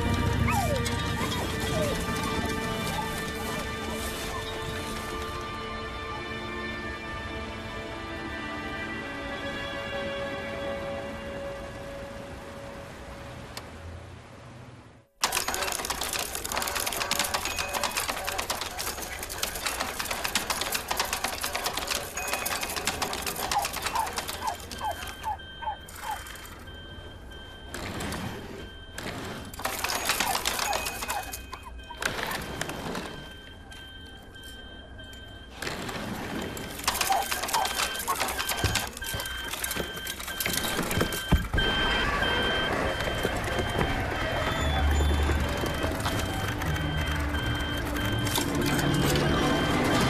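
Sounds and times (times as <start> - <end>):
printing machine clattering: 0.0 - 5.4, 15.2 - 50.0.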